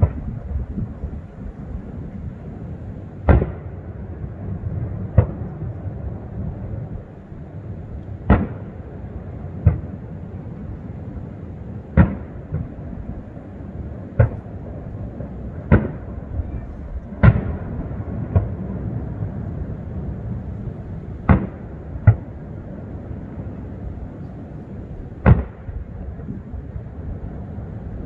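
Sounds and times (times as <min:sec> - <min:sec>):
fireworks booming: 0:00.0 - 0:28.0
low rumble: 0:00.0 - 0:28.0.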